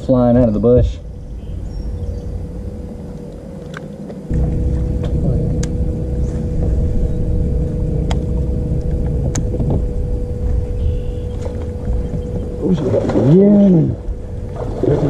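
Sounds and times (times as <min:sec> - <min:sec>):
electric trolling motor humming: 0:00.0 - 0:15.0
wind rumble on microphone: 0:00.0 - 0:15.0.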